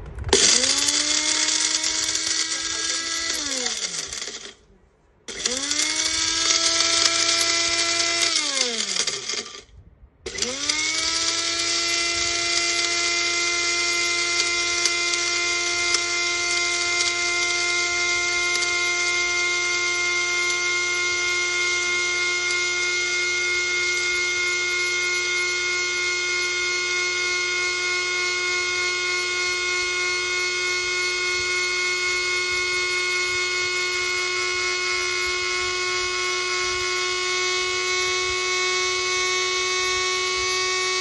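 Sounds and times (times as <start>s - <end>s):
mixer grinder motor whining: 0.0s - 4.7s, 5.3s - 41.0s.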